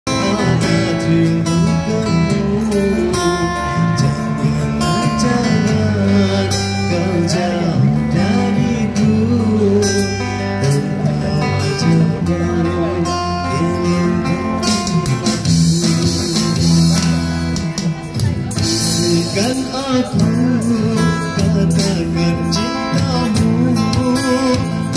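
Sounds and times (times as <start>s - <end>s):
held bass notes: 0.1s - 24.9s
live band playing: 0.1s - 24.9s.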